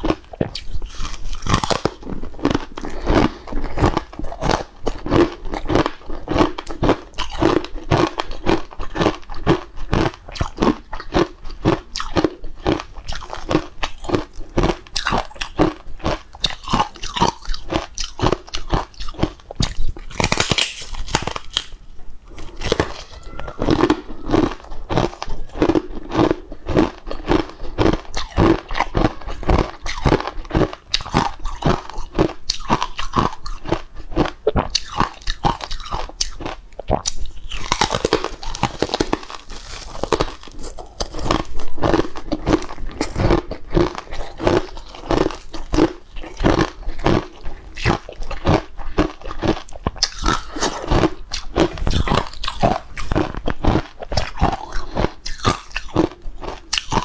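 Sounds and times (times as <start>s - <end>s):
crunchy snack chewing: 0.0s - 57.0s.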